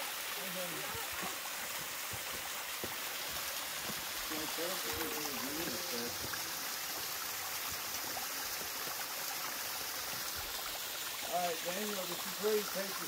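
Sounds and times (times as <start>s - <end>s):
waterfall onto rocks: 0.0s - 13.0s.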